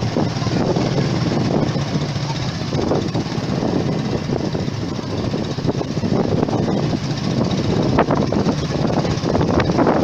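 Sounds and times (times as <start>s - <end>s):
motorbike engine running: 0.0s - 10.0s
wind on microphone: 0.0s - 10.0s.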